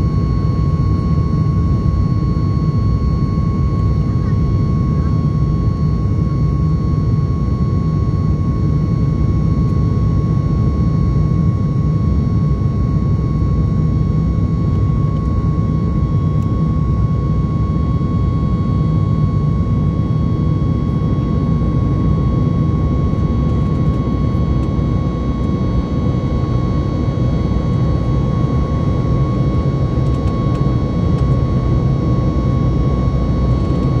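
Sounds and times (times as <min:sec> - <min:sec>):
jet engines and airflow rumble: 0:00.0 - 0:34.0
thin steady whine: 0:00.0 - 0:34.0.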